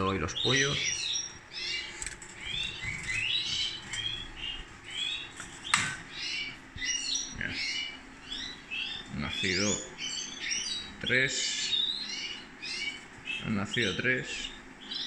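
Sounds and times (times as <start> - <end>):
songbirds chirping and singing: 0.0 - 15.0.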